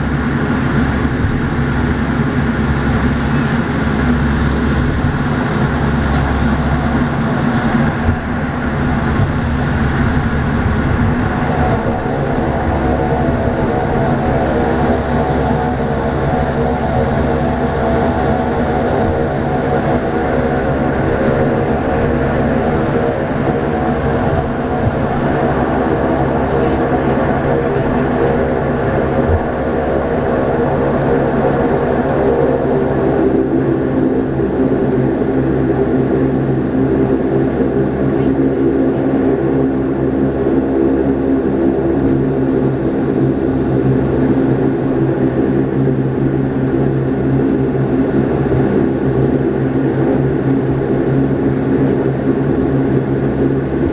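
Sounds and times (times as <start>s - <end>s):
turboprop engines droning in flight: 0.0s - 53.9s.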